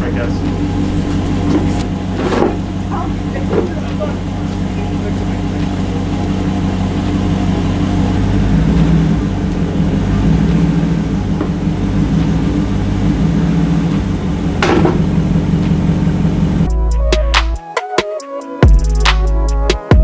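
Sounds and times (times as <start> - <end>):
car engine idling: 0.0 - 17.6.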